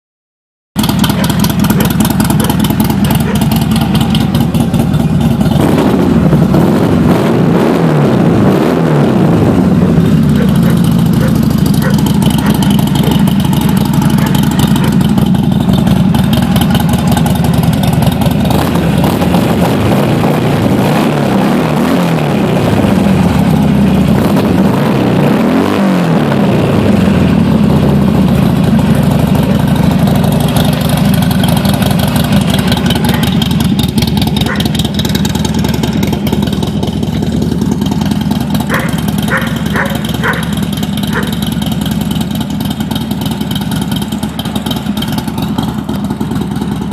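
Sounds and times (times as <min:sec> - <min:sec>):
motorcycle engine idling and revving: 0:00.8 - 0:46.9.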